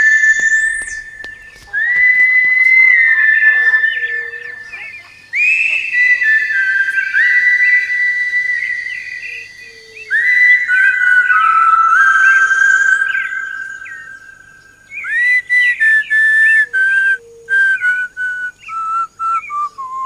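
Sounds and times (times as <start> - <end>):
clear high whistling: 0.0 - 20.0.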